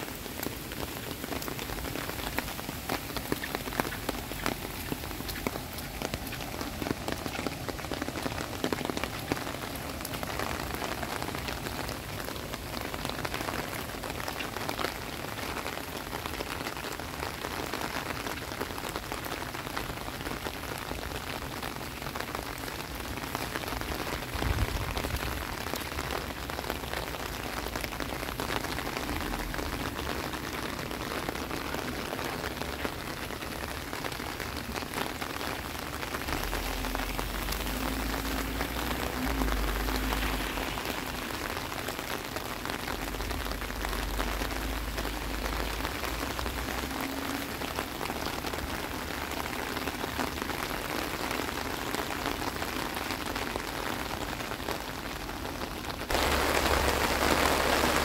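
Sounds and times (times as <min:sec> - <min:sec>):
heavy rain on water: 0:00.0 - 0:58.0.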